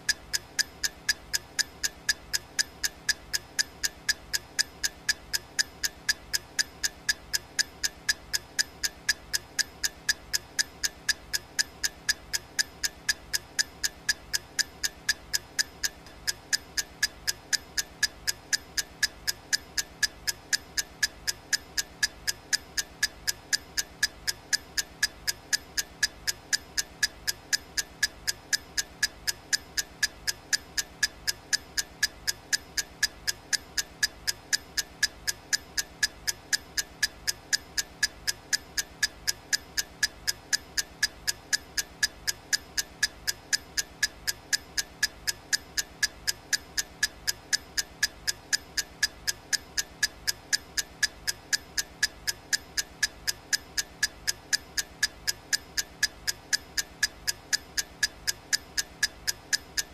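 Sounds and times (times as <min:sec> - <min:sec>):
countdown timer ticking: 0:00.0 - 0:59.9.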